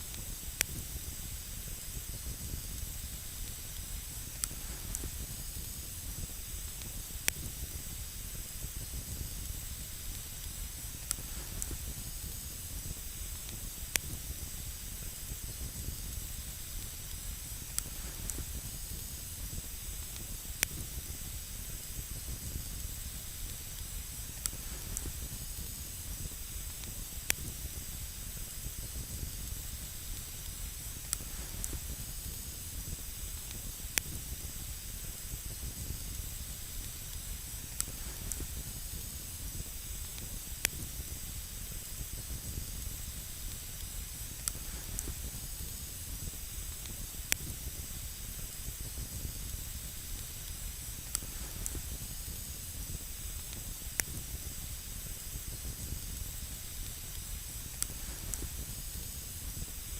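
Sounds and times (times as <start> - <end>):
campfire hissing and crackling: 0.0 - 59.9.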